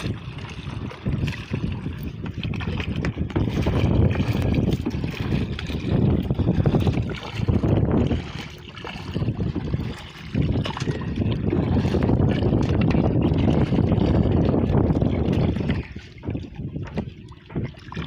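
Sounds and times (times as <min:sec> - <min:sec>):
paddle splashing water: 0:00.0 - 0:18.0
wind rumbling on microphone: 0:00.0 - 0:18.0.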